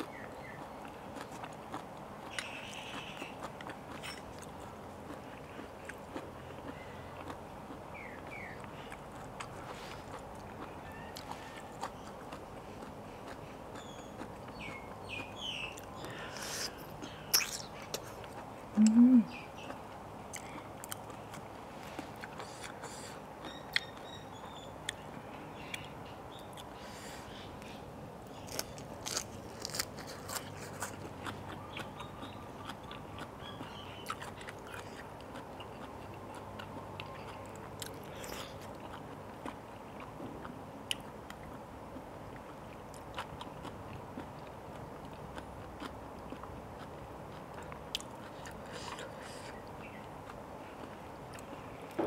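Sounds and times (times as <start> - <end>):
biting and chewing: 0.0 - 52.0.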